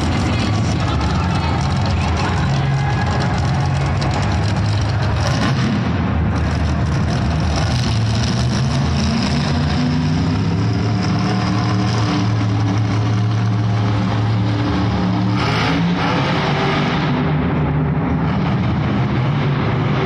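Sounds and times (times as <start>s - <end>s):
monster truck engines revving: 0.0s - 20.0s.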